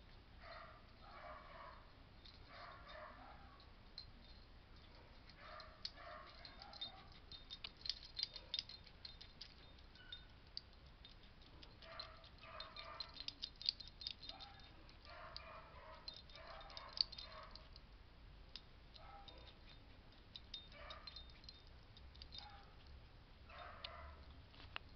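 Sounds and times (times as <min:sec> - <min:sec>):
collar buckle clicking: 0:02.2 - 0:17.9, 0:18.5 - 0:23.0, 0:23.6 - 0:24.9.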